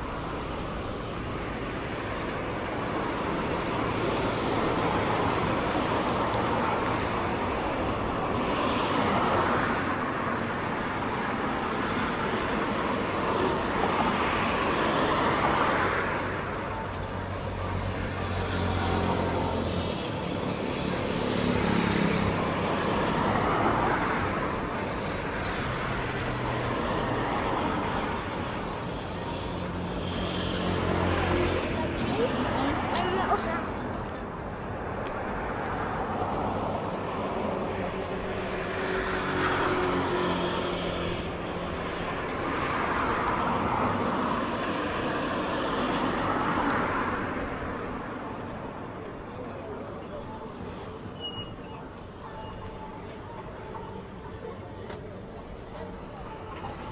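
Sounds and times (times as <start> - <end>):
hum of passing cars: 0.0 - 51.1.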